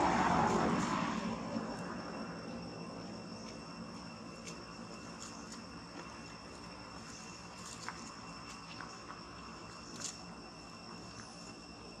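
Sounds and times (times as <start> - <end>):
high-pitched insect chorus: 0.0 - 12.0
passing aircraft noise: 0.0 - 12.0.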